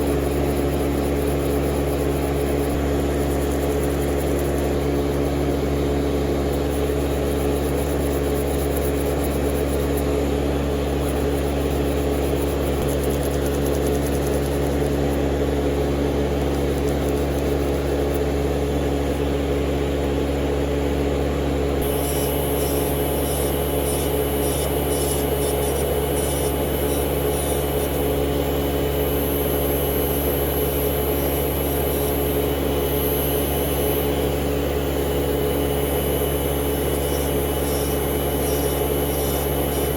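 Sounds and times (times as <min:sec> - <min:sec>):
electric motor hum: 0:00.0 - 0:39.9.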